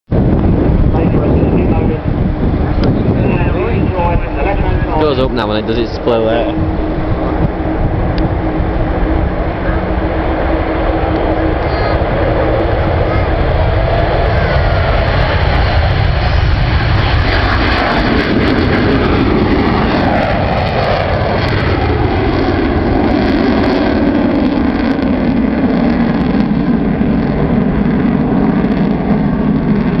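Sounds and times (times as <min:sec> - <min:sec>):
loud jet roar: 0:00.1 - 0:30.0.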